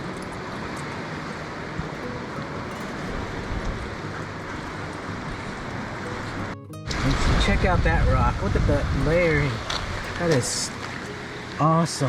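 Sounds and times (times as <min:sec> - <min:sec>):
surf rushing: 0:00.0 - 0:12.0
wind: 0:00.0 - 0:12.0.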